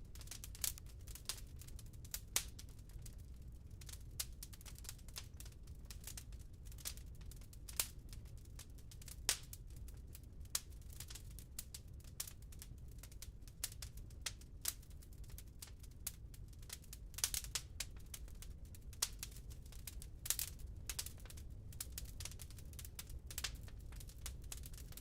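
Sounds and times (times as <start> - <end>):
low rumble of fire: 0.0 - 25.0
wood fire snaps and pops: 0.0 - 25.0.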